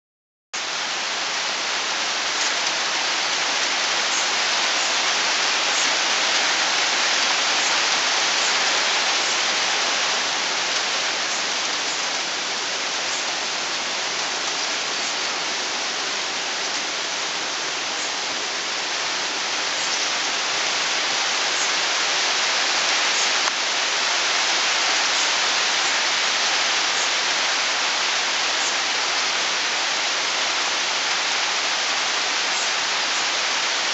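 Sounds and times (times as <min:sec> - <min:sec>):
steady rain hiss: 0:00.6 - 0:33.9.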